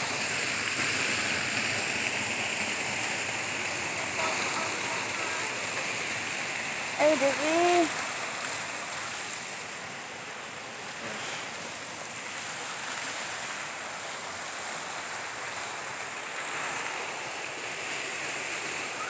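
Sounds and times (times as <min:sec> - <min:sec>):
stream flowing over rocks: 0:00.0 - 0:19.0.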